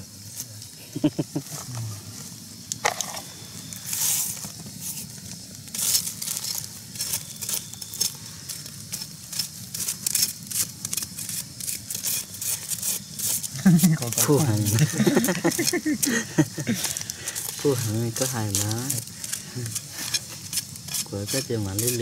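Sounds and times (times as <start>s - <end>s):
crisp rustling and crinkling: 1.4s - 22.0s.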